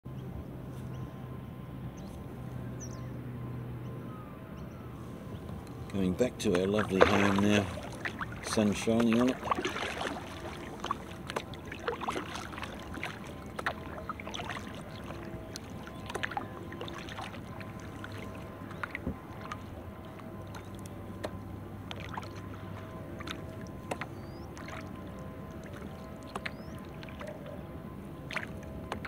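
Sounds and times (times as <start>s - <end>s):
faint steady hum: 0.1s - 29.0s
paddle splashes and drips: 5.3s - 29.0s.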